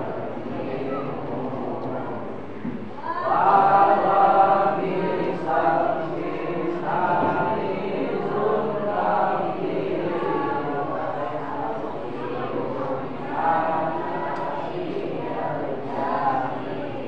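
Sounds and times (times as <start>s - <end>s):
men chanting in unison: 3.2s - 17.0s.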